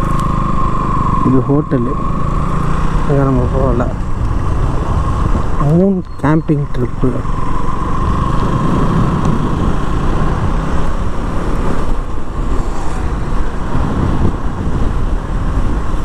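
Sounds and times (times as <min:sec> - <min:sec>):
motorcycle engine: 0:00.0 - 0:16.0
wind on microphone: 0:02.8 - 0:16.0.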